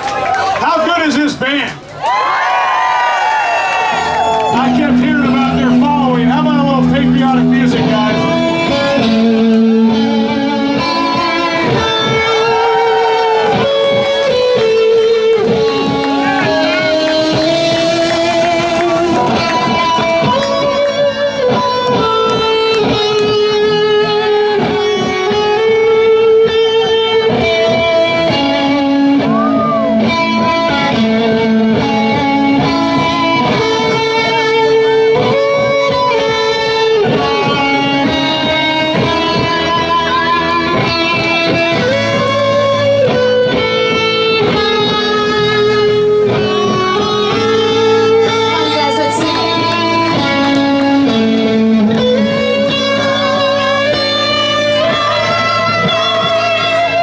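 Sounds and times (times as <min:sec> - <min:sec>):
electric guitar long held notes: 0:03.5 - 0:57.0
live band playing instrumental: 0:03.9 - 0:57.0.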